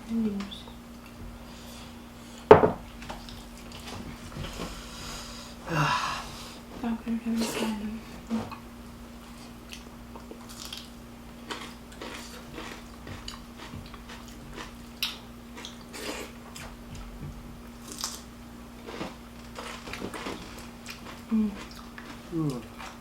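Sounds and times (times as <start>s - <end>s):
people chewing food: 0.3s - 23.0s.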